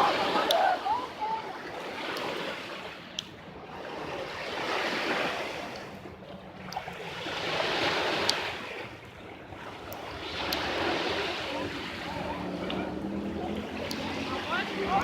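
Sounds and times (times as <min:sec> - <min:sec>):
small waves washing ashore: 0:00.0 - 0:15.0.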